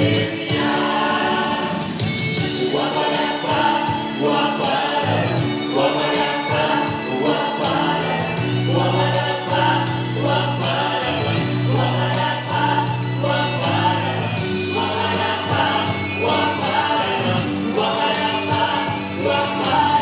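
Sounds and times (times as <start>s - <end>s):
instrumental accompaniment with beat: 0.0s - 20.0s
vocal ensemble singing: 0.0s - 20.0s.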